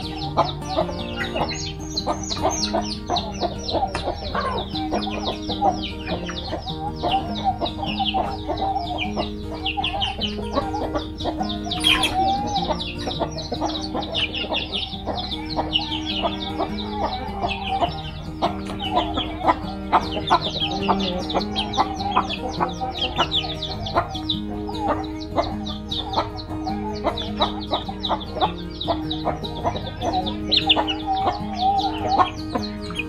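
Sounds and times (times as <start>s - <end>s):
background music with held notes: 0.0s - 33.0s
chickens clucking: 0.0s - 33.0s
high chirps: 0.0s - 33.0s.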